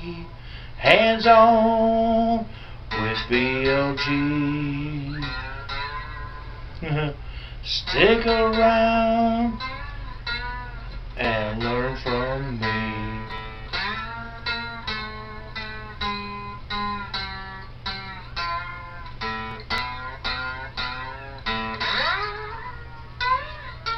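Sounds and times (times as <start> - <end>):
plucked guitar notes: 0.0 - 23.9.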